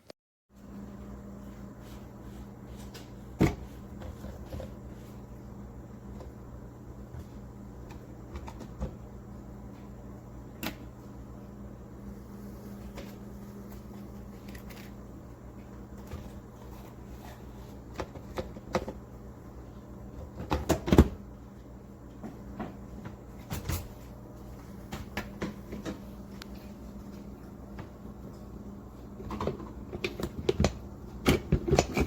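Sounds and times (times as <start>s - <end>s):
steady low hum: 0.5s - 32.0s.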